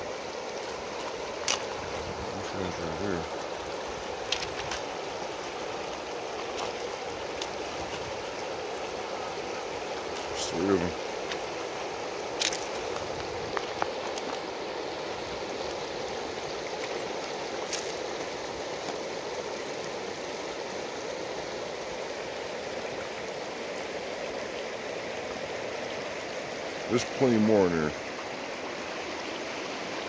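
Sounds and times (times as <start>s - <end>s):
river water over gravel: 0.0s - 30.0s.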